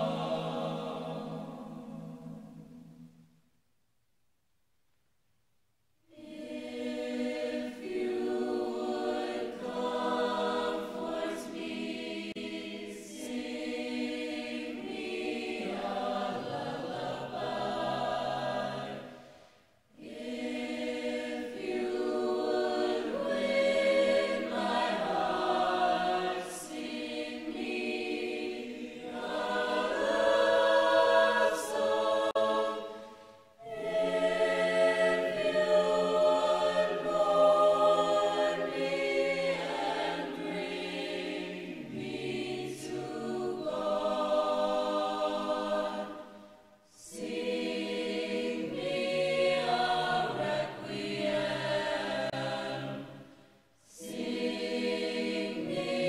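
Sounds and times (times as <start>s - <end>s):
choir singing sustained chords: 0.0s - 3.4s, 6.1s - 56.0s.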